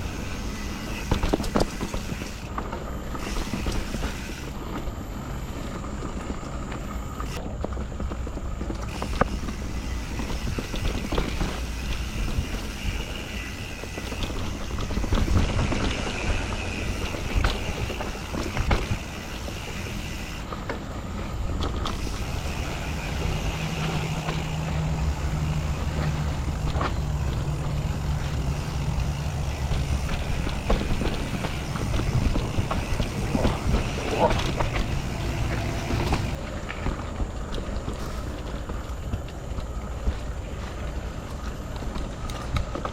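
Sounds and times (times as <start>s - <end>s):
bike tyres rolling on dirt: 0.0s - 42.9s.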